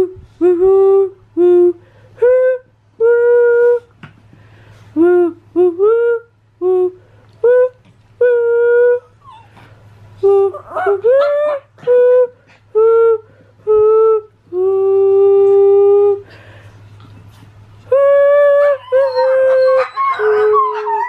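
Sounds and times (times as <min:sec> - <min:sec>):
person humming a tune: 0:00.0 - 0:04.0, 0:04.9 - 0:09.4, 0:10.2 - 0:16.5, 0:17.8 - 0:21.0
faint electrical hum: 0:00.0 - 0:21.0.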